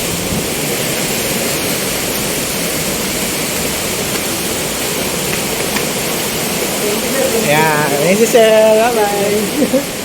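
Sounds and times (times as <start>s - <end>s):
rushing water hiss: 0.0s - 10.0s.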